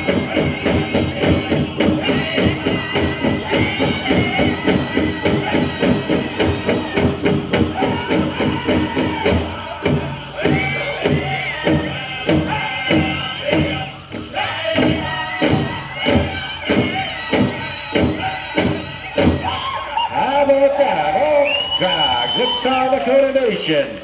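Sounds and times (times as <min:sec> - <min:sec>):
high-pitched group singing: 0:00.0 - 0:22.5.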